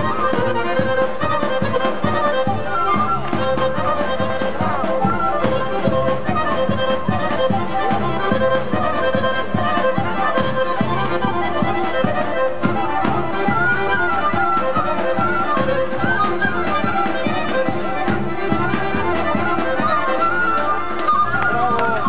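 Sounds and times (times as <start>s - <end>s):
folk dance music with accordion: 0.0s - 22.0s.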